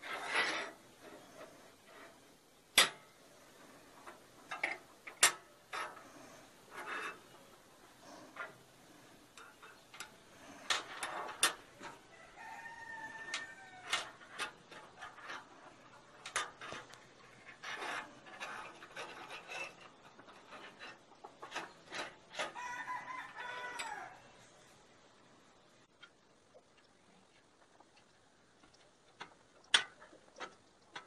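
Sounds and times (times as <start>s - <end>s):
metal clicks and rubbing: 0.0s - 12.1s, 13.3s - 24.1s, 26.8s - 31.0s.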